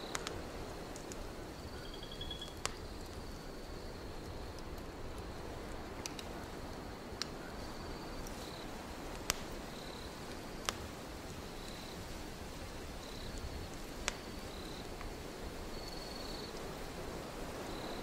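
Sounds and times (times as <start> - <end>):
wood fire crackling and popping: 0.0 - 17.5
crickets chirping: 0.0 - 18.0
low rush of wind: 0.0 - 18.0.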